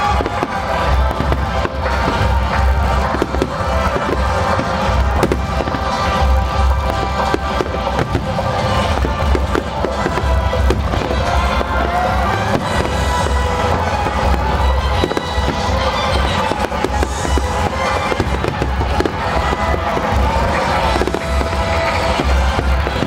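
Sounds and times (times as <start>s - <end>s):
fireworks bursting: 0.0s - 23.0s
fireworks show music: 0.0s - 23.0s.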